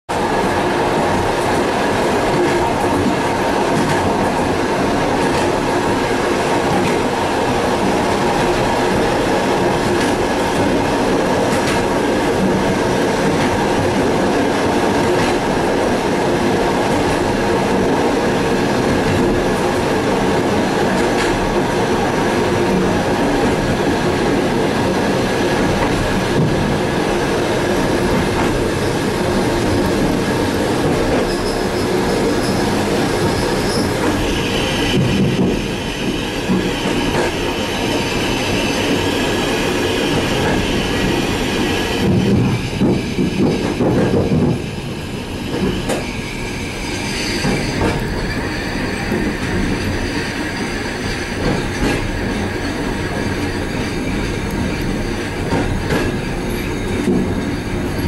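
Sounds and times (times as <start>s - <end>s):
train wheels rumbling on rails: 0.1s - 58.0s.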